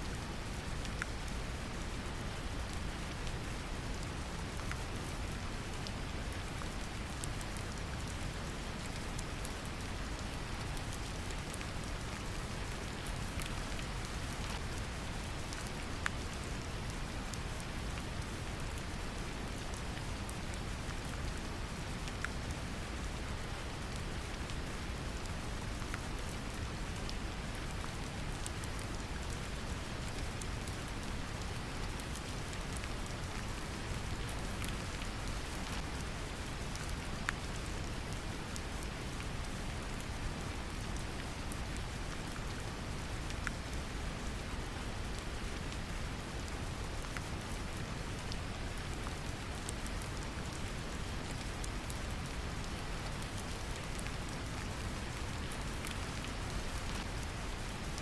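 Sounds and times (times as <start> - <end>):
gentle rain: 0.0 - 58.0.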